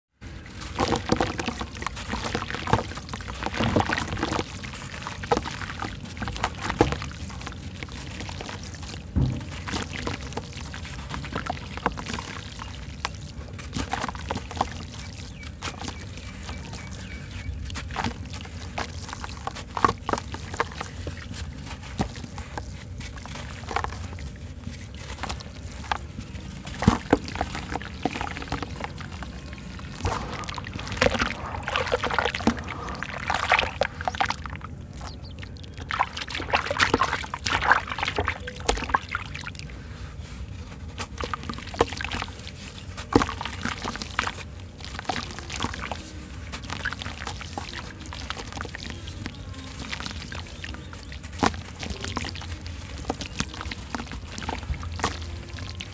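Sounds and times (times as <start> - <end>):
blocks crunching and crumbling: 0.3 - 55.9
wet grit splashing into water: 0.4 - 55.9.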